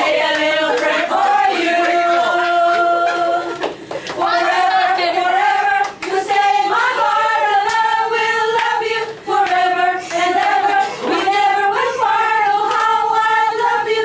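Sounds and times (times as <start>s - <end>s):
group singing: 0.0s - 14.0s.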